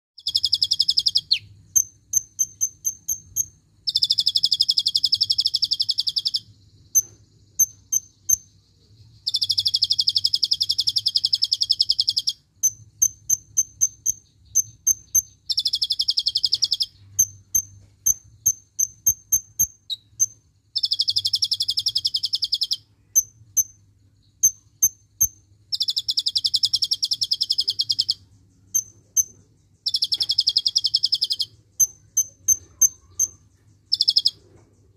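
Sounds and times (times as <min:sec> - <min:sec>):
bird buzzy trills: 0:00.2 - 0:34.9.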